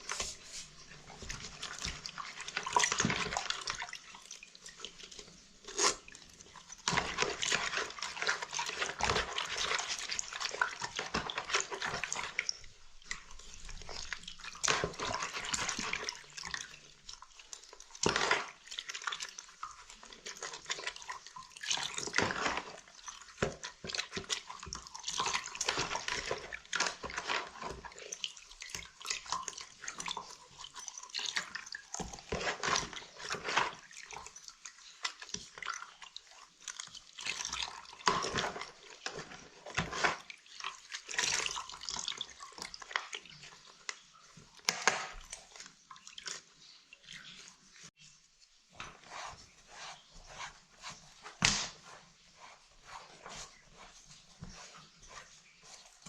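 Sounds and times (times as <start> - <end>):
brushing and scrubbing: 0.0 - 56.0
water splashing and dripping: 0.0 - 56.0.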